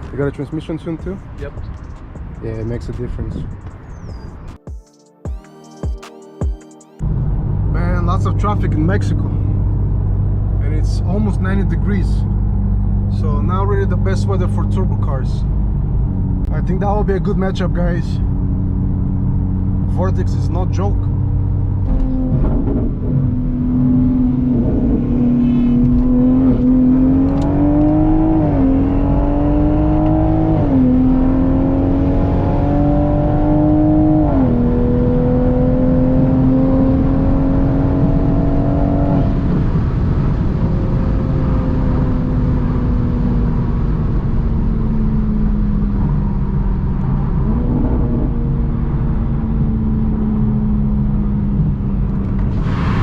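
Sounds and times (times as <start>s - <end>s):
car engine accelerating with upshifts: 7.0s - 53.0s.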